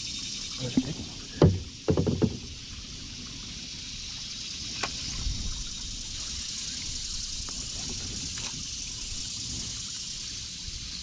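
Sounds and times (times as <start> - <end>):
river water trickling and lapping: 0.0 - 11.0
steady high hiss: 0.0 - 11.0.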